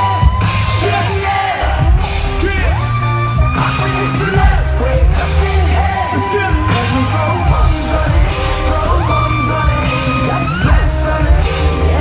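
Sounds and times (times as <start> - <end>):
crowd yelling: 0.0 - 12.0
hip-hop music over sound system: 0.0 - 12.0.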